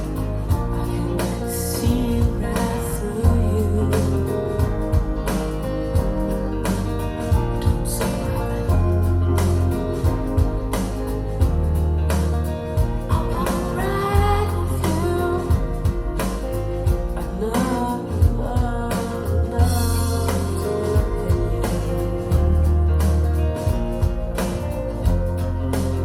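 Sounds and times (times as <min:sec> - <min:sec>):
slow ballad through speakers: 0:00.0 - 0:26.0.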